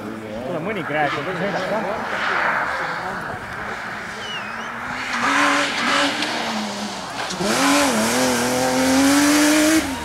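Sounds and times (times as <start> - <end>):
car engine revving passing by: 0.3 - 10.0.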